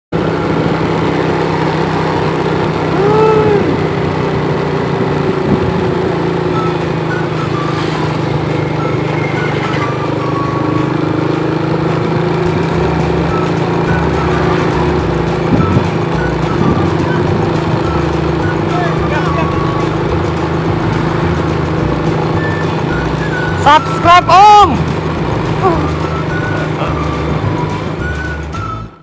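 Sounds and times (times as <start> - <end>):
vehicle engines droning: 0.1 - 29.0
rising and falling tone: 0.2 - 29.0.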